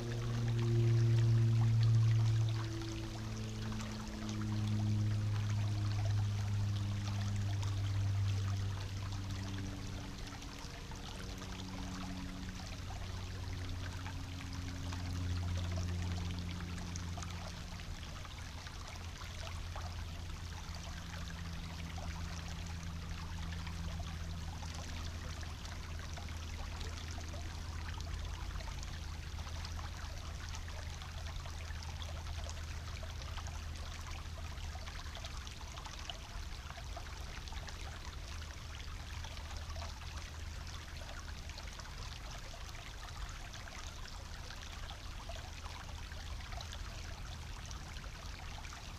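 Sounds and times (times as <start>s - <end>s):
brook babbling over stones: 0.0s - 48.9s
low hum: 0.0s - 48.9s.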